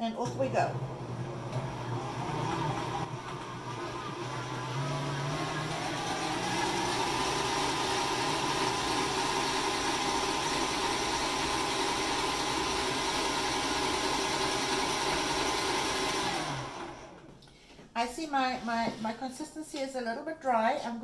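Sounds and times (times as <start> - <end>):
stand mixer motor whine: 0.3 - 17.3.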